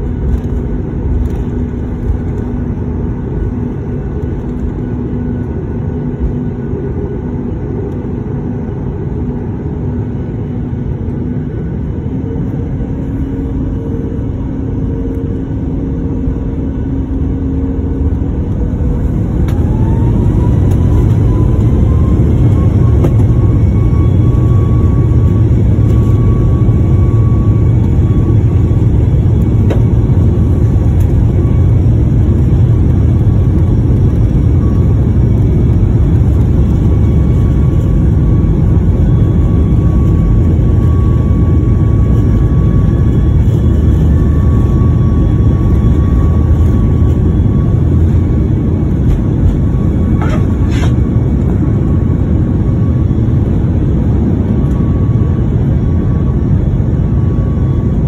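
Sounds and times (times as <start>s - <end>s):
jet engines spooling up: 11.2s - 57.9s.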